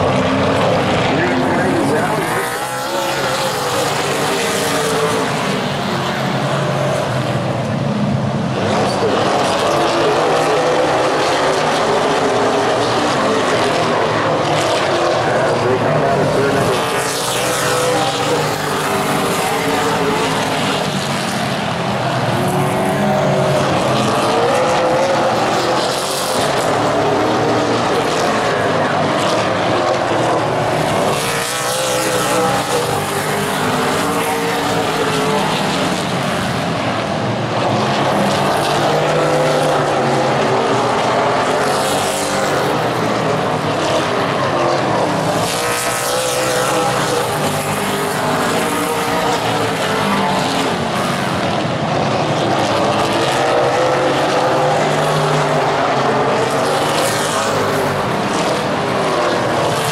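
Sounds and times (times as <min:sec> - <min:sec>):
stock car engines racing: 0:00.0 - 0:59.9.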